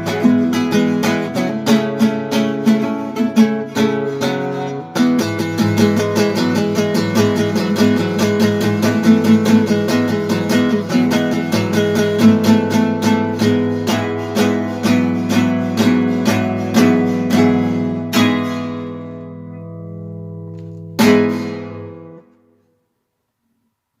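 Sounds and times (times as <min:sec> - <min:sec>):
acoustic guitar strumming: 0:00.0 - 0:22.6.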